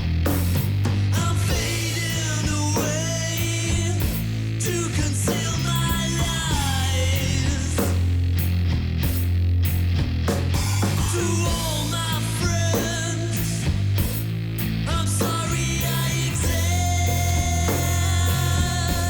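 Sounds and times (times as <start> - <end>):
heavy bass line: 0.0 - 19.0.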